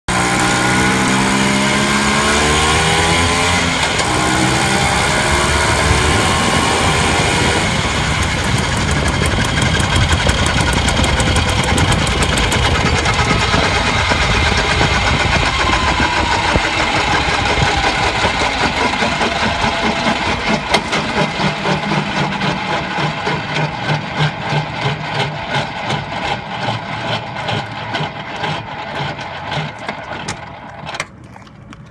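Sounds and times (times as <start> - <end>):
scooter engine running: 0.1 - 31.9.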